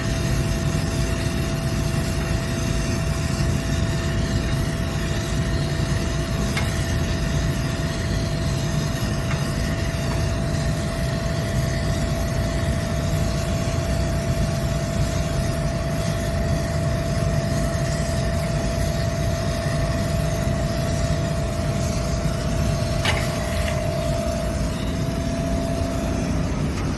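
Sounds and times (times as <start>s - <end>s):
machine rumble and hum: 0.0s - 26.9s.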